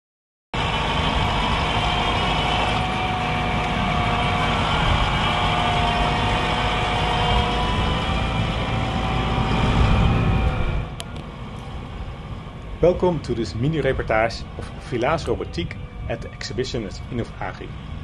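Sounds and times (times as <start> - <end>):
machine low rumble: 0.6 - 18.0
steady whine: 0.6 - 18.0.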